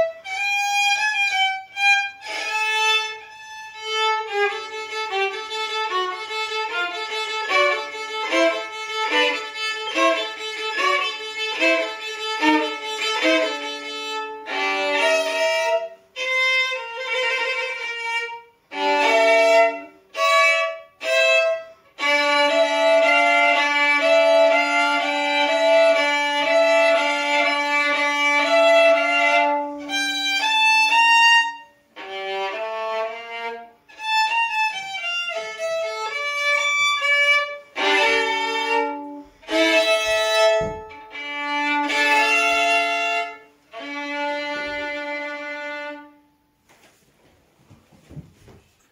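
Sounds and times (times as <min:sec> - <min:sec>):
solo violin dance tune: 0:00.0 - 0:46.6.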